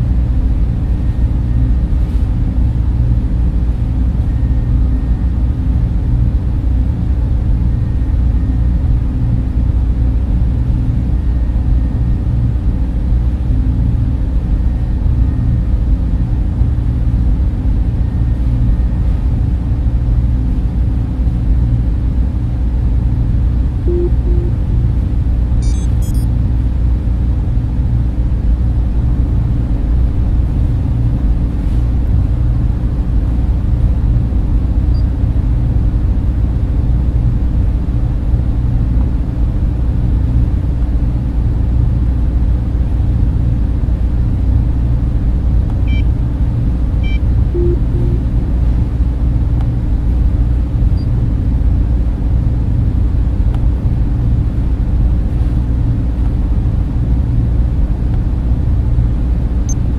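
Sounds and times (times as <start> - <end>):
server cooling fans humming: 0.0 - 59.9.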